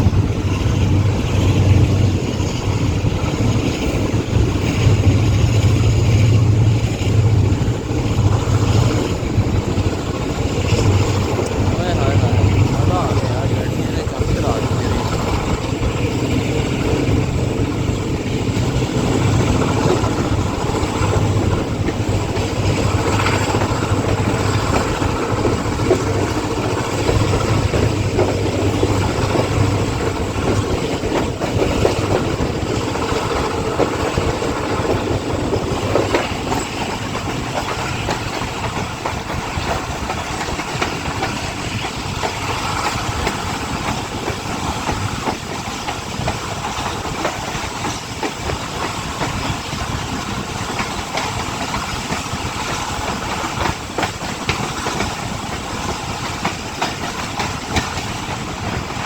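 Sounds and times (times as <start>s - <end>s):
train rumbling on track: 0.0s - 59.0s
wheels clacking over rails: 0.0s - 59.0s.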